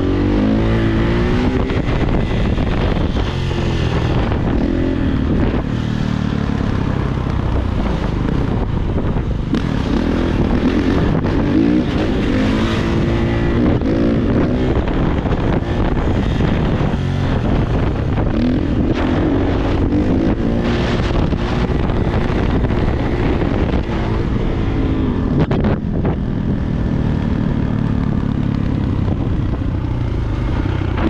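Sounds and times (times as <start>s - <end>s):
dirt bike engine revving: 0.0s - 27.3s.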